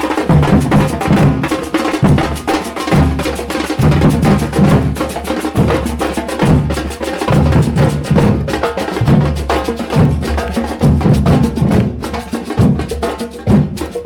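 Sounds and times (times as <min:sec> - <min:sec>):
heavy low drum beat: 0:00.0 - 0:14.0
sharp wood-like drum clacks: 0:00.0 - 0:14.0.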